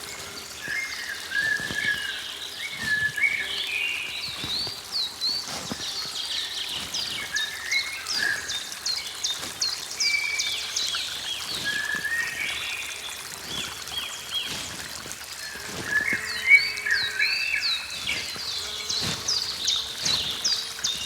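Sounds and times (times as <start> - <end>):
faint trickling water: 0.0 - 21.0
songbirds singing and chirping: 0.0 - 21.0.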